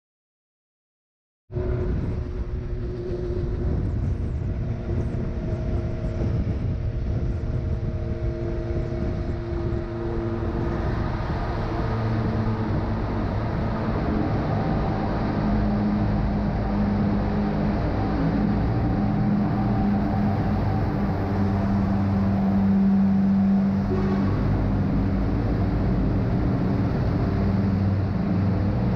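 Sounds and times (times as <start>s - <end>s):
wind and road noise: 1.5s - 28.9s
motorcycle engine: 1.6s - 28.9s.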